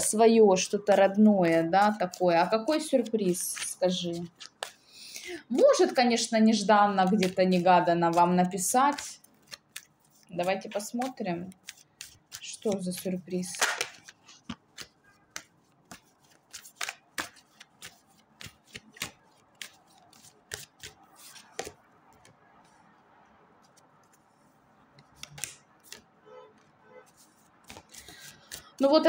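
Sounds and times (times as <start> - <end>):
cards shuffling and clicking: 0.6 - 4.9, 5.6 - 22.8, 24.9 - 29.0.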